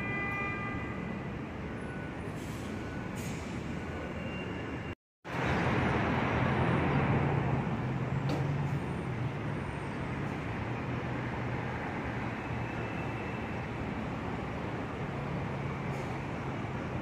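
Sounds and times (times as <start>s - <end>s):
subway train rumbling: 1.0s - 17.0s.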